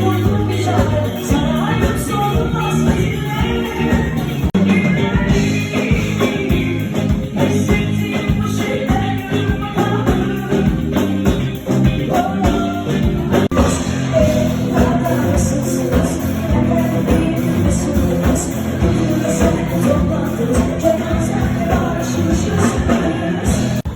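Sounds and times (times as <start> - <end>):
band music with drums: 0.0 - 23.9
person singing: 0.0 - 23.9.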